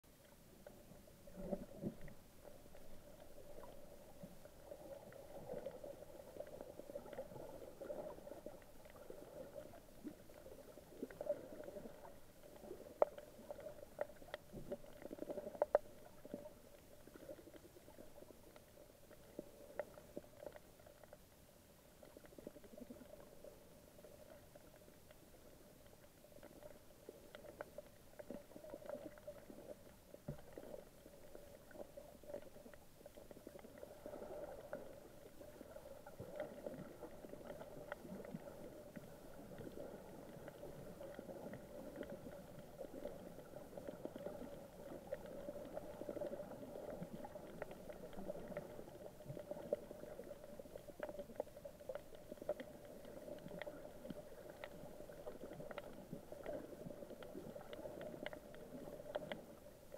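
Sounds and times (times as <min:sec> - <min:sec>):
faint underwater hum: 0:00.0 - 0:59.9
low underwater rumble: 0:00.0 - 0:59.9
small clicks and crackles: 0:00.1 - 0:59.9.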